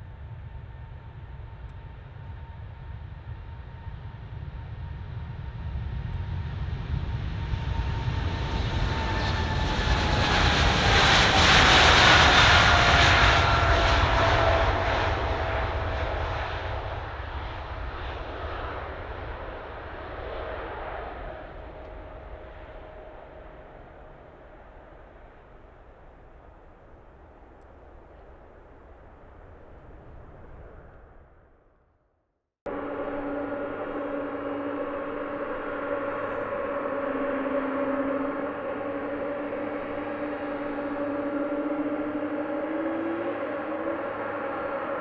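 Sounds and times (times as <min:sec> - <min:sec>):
jet airliner flying past: 0:00.0 - 0:31.2, 0:32.7 - 0:45.0.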